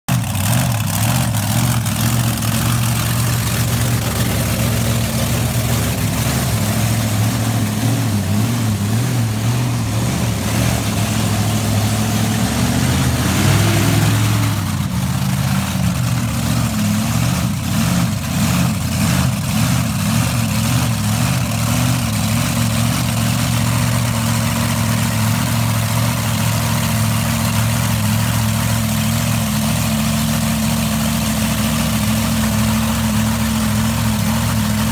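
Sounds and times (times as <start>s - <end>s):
monster truck engine idling: 0.0s - 34.9s.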